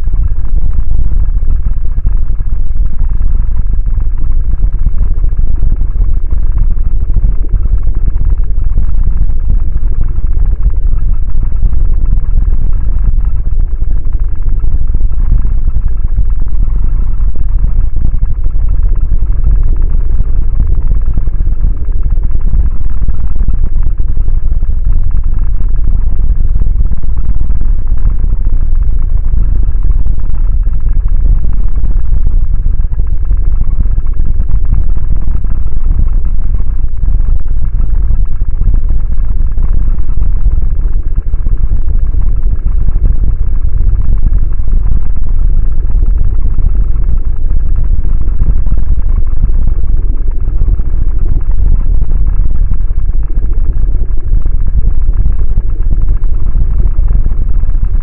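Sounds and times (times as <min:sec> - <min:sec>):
deep low rumble: 0:00.0 - 0:58.0.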